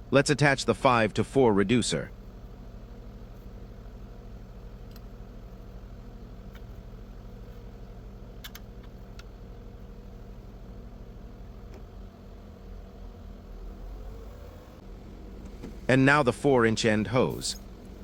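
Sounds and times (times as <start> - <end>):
diesel engine idling: 0.7 - 18.0.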